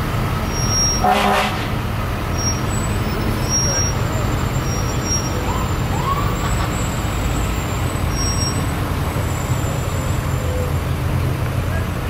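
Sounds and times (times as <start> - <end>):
ambulance engine rumbling: 0.0 - 12.0.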